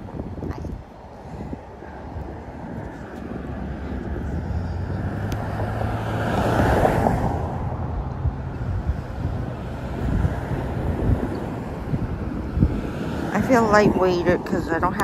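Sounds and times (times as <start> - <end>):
street traffic: 0.0 - 15.0
wind on microphone: 0.0 - 15.0
vehicle driving past: 1.9 - 14.8.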